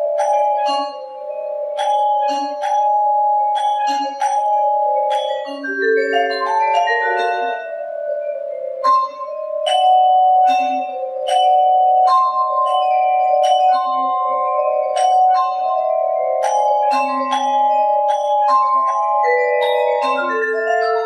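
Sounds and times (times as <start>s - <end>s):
vibraphone notes ringing: 0.0s - 21.0s.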